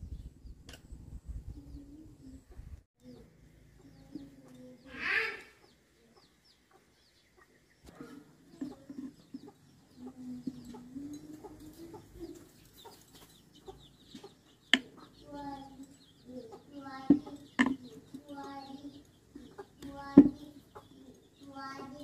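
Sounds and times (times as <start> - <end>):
small birds chirping: 0.0 - 22.0
chickens clucking: 2.5 - 22.0.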